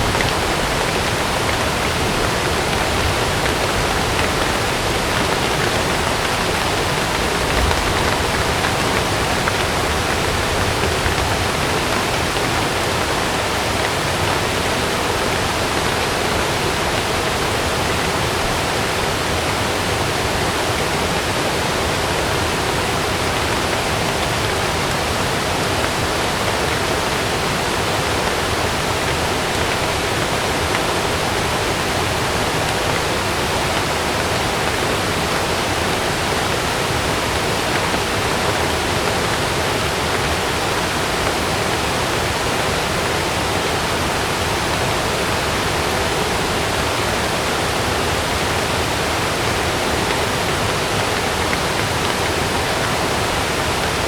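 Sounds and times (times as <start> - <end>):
heavy rain: 0.0 - 54.0
rushing water: 0.0 - 54.0.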